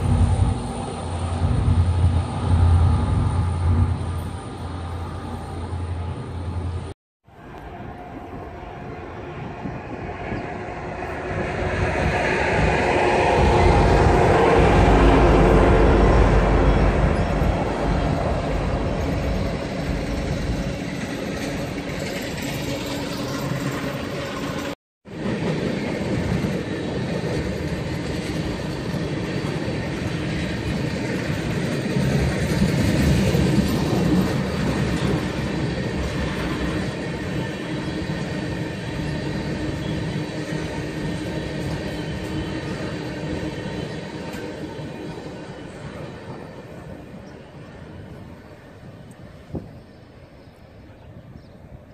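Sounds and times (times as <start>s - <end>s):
freight train wheels on rails: 0.0s - 51.9s.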